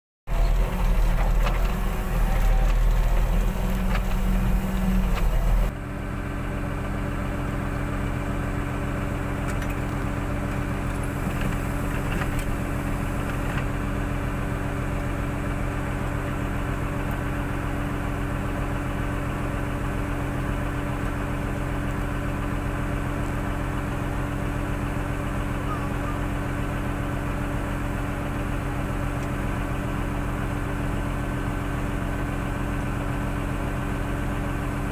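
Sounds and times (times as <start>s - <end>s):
diesel engine rumbling: 0.3s - 34.9s.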